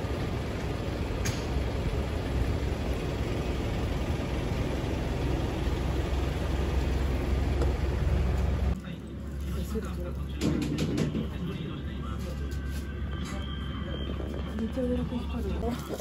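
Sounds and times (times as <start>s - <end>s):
low mechanical rumble: 0.0s - 16.0s
street noise: 0.0s - 16.0s.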